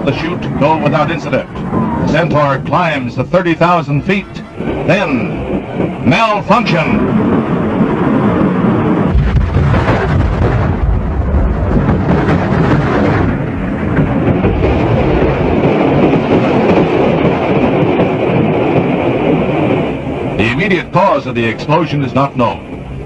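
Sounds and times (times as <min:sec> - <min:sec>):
deep rumbling of rocket explosion: 0:00.0 - 0:23.0.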